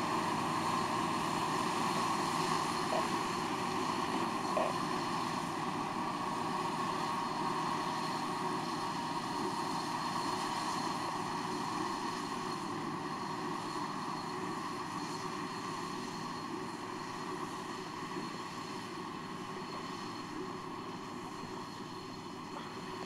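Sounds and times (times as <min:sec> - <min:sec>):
spreader beaters running: 0:00.0 - 0:23.0.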